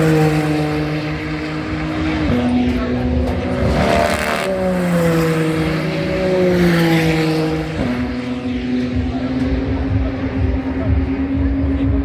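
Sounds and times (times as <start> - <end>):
race car engine running: 0.0 - 12.0.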